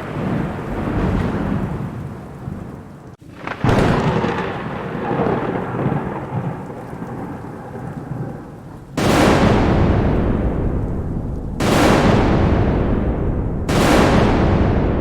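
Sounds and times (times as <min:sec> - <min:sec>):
sharp thunderclap: 0:00.0 - 0:02.7, 0:03.3 - 0:08.4, 0:09.0 - 0:15.0
steady rain hiss: 0:00.0 - 0:15.0
thunder rumbling: 0:00.0 - 0:15.0.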